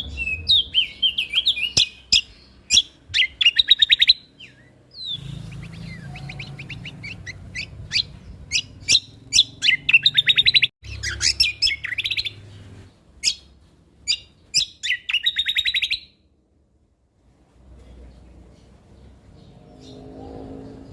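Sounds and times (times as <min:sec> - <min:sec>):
bird singing chirps and trills: 0:00.0 - 0:16.2, 0:17.9 - 0:20.9.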